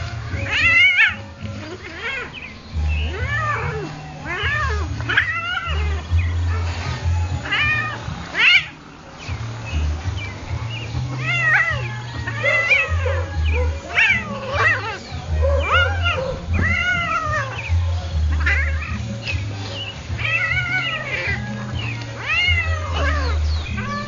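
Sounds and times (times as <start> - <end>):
cat yowling and meowing: 0.3 - 2.4, 3.0 - 8.8, 11.0 - 19.2, 20.0 - 24.0.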